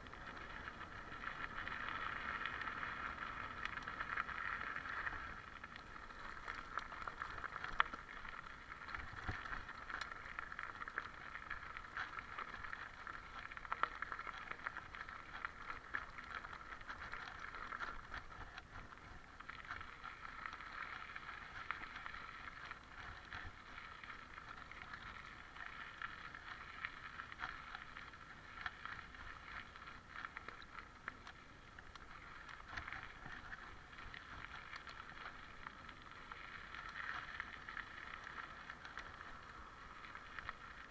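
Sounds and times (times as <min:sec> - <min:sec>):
bike tyres on gravel: 0:00.0 - 0:40.9
stones and bike rattling: 0:00.0 - 0:40.9.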